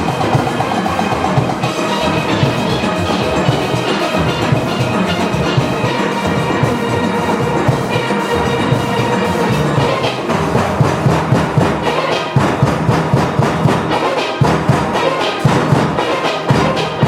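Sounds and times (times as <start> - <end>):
steel band playing: 0.0 - 17.0.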